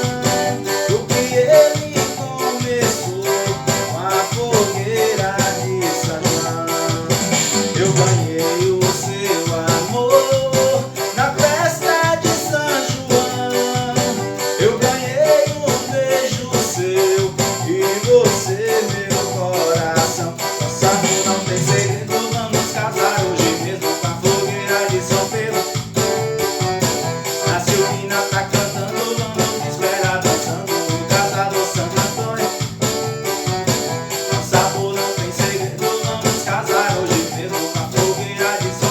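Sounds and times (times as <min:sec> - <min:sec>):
fast shaker-like beat: 0:00.0 - 0:38.9
keyboard melody: 0:00.0 - 0:38.9
keyboard rhythm accompaniment: 0:00.0 - 0:38.9.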